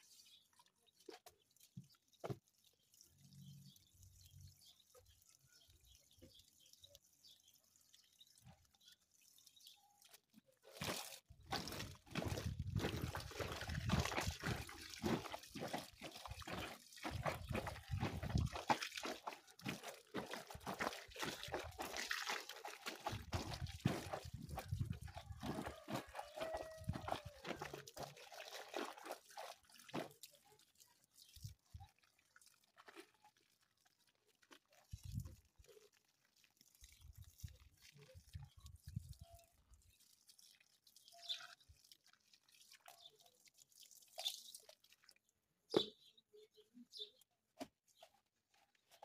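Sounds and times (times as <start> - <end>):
water splashing and pouring: 0.0 - 45.9.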